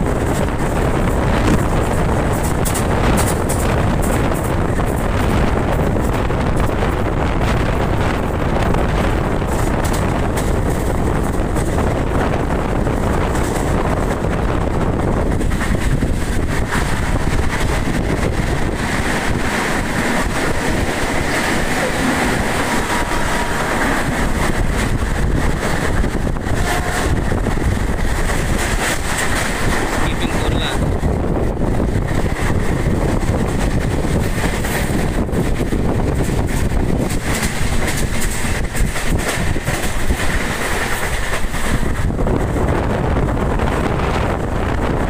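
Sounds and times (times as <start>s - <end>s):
train wheels rumbling on rail: 0.0s - 45.0s
wind buffeting microphone: 0.0s - 45.0s.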